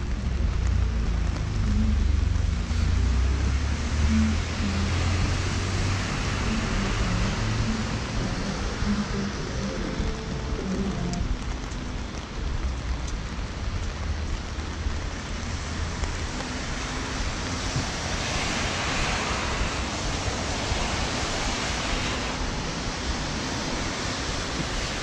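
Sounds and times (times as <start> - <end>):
rain on a plastic umbrella: 0.0 - 25.0
traffic rumble on wet street: 0.0 - 25.0.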